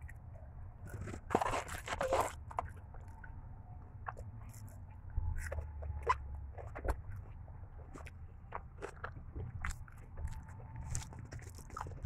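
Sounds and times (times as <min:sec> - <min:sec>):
crunching and chewing food: 0:00.0 - 0:12.0
low steady hum: 0:00.0 - 0:12.0.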